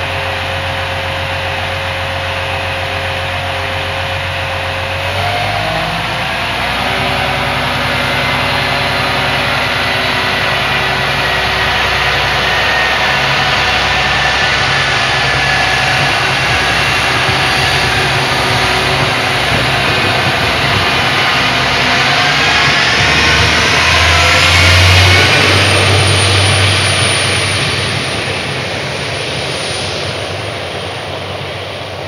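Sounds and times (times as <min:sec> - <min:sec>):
train engine and wheels: 0:00.0 - 0:32.0.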